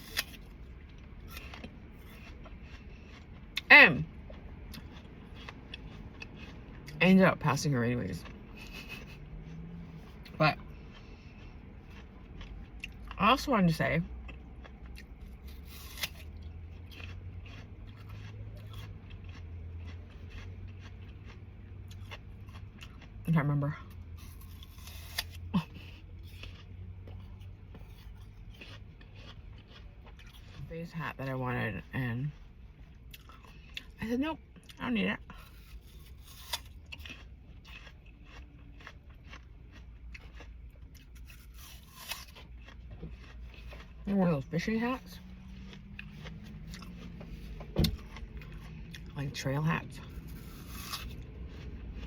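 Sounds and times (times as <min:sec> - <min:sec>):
person chewing food: 0:00.0 - 0:13.2, 0:14.0 - 0:52.0
steady low hum: 0:00.0 - 0:52.0.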